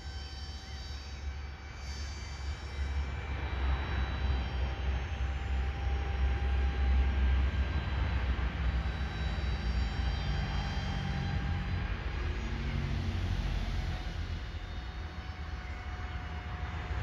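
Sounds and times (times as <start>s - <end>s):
distant propeller motor whining: 2.7s - 17.0s.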